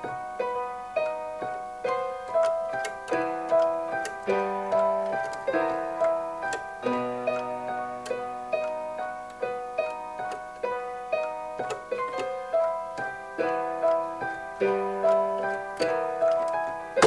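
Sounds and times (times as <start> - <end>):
electronic keyboard piano melody: 0.0 - 17.0.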